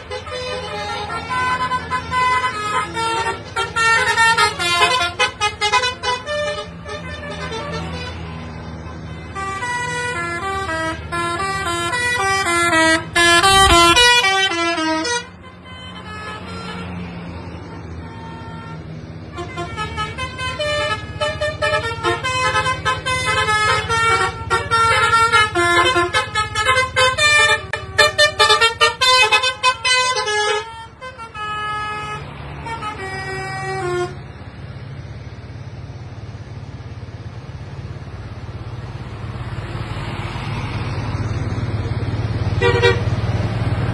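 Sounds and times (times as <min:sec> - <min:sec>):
musical bus air horns: 0:00.0 - 0:34.4, 0:42.5 - 0:43.4
low hum of bus engines: 0:00.0 - 0:43.9.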